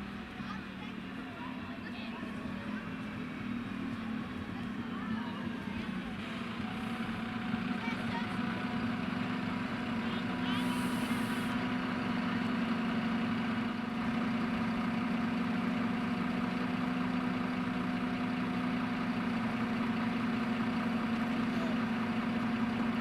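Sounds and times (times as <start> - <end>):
diesel train engine idling: 0.0 - 23.0.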